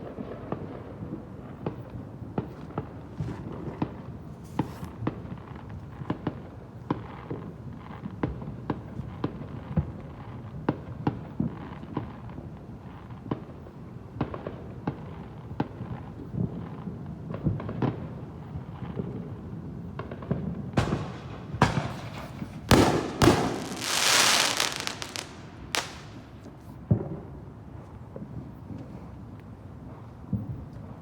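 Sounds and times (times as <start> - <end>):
fireworks bangs and pops: 0.1 - 29.2.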